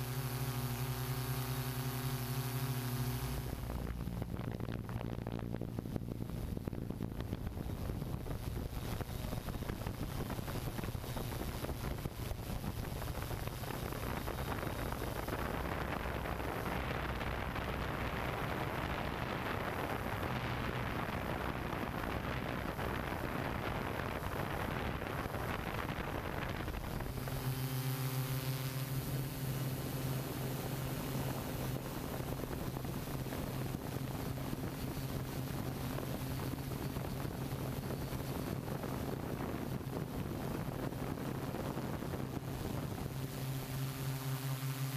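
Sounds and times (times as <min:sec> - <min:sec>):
drone motors humming: 0:00.0 - 0:44.9
wind rushing over microphone: 0:00.0 - 0:44.9.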